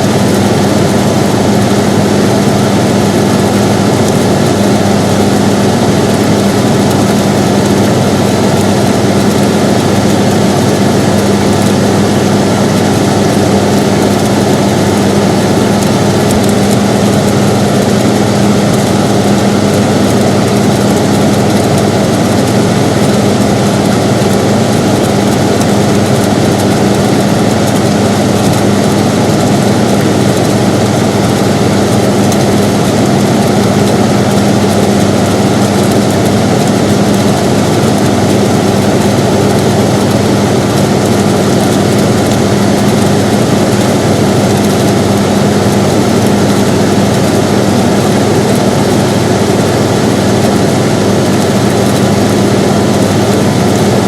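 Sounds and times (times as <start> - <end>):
air conditioner running: 0.0 - 54.0.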